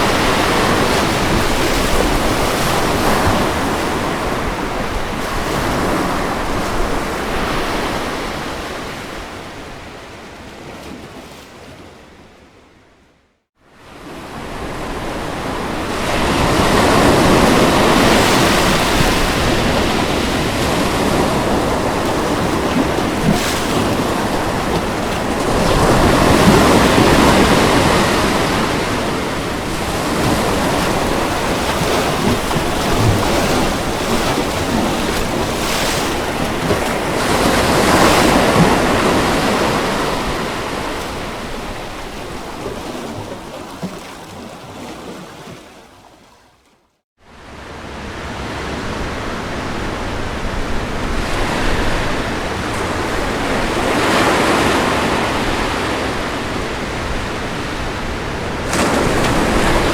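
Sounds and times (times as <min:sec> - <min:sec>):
ocean surf breaking: 0:00.0 - 0:10.8, 0:13.8 - 0:45.8, 0:47.3 - 0:59.9.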